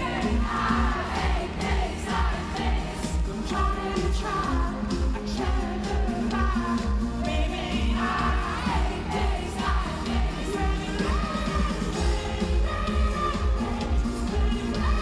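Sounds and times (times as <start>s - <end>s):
live pop band: 0.0s - 15.0s.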